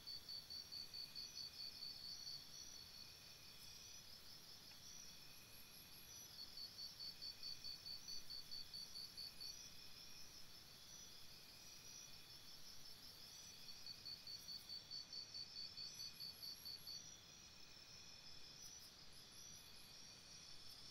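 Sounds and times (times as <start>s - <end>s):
insect chirping: 0.1s - 20.9s.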